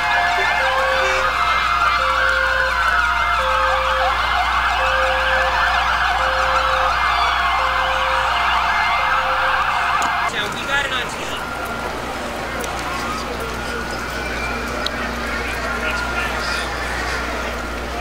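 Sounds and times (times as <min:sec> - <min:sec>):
emergency sirens wailing: 0:00.0 - 0:18.0.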